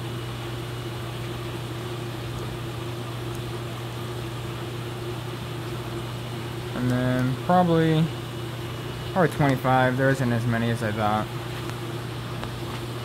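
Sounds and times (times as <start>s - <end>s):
equipment hum with hiss: 0.0s - 13.0s.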